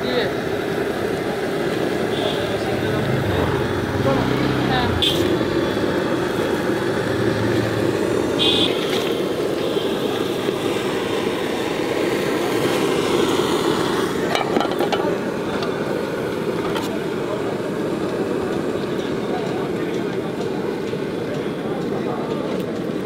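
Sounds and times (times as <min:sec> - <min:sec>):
busy street traffic hum: 0:00.0 - 0:23.0.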